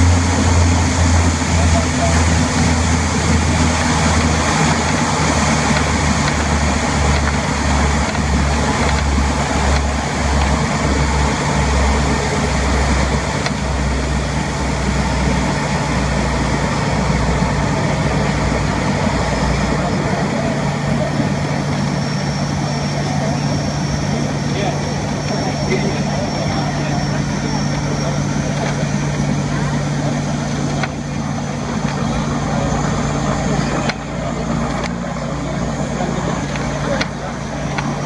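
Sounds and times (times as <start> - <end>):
turboprop drone: 0.0 - 38.0.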